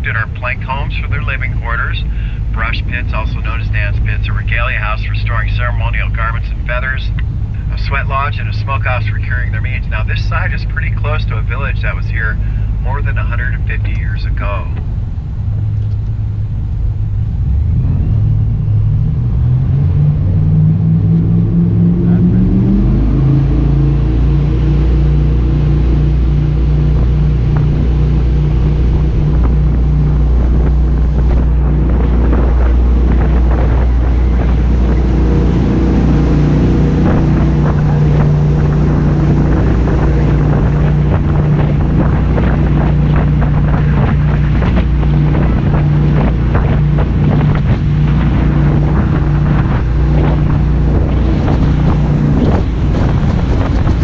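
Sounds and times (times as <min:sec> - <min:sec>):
boat engine droning: 0:00.0 - 0:54.0
wind buffeting microphone: 0:00.0 - 0:54.0.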